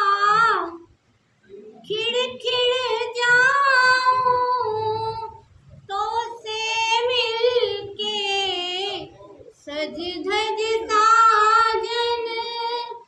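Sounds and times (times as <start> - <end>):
woman singing unaccompanied: 0.0 - 0.9, 1.8 - 13.0.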